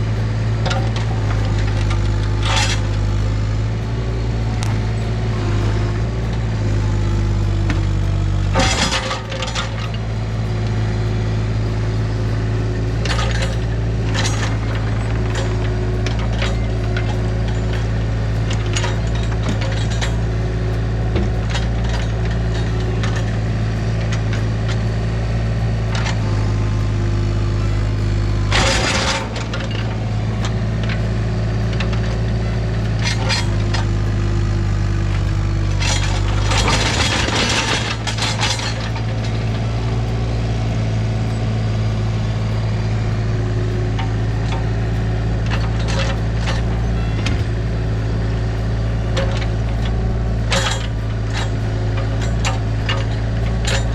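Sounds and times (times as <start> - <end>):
clanks and knocks: 0.0 - 53.9
earthmoving machine engine running: 0.0 - 53.9.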